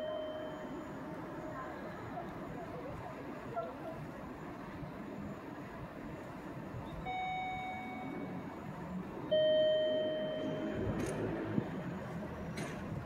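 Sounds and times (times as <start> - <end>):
station background noise: 0.0 - 13.0.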